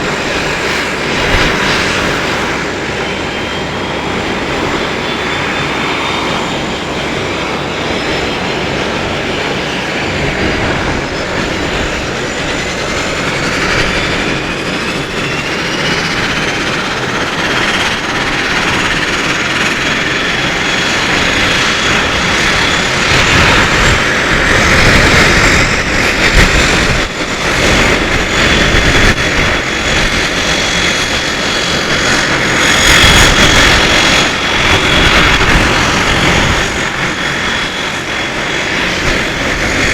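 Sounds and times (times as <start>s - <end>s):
low rumbling gusts: 0.0s - 39.9s
turboprop engines whine spooling up: 0.0s - 39.9s.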